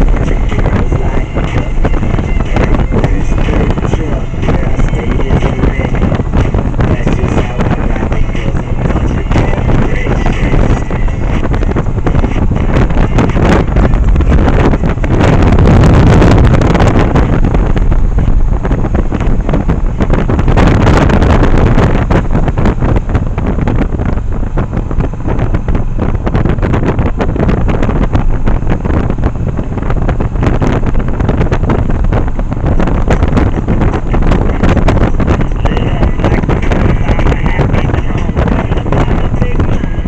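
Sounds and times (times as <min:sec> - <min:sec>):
motorcycle engine: 0:00.0 - 0:40.0
wind buffeting microphone: 0:00.0 - 0:40.0.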